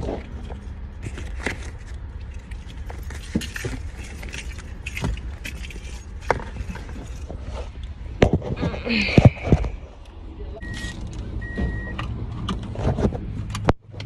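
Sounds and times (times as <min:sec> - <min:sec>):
low car rumble: 0:00.0 - 0:14.0.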